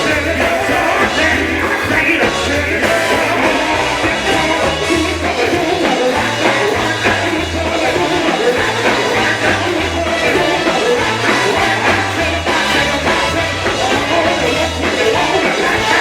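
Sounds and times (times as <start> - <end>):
live gospel band music: 0.0 - 16.0.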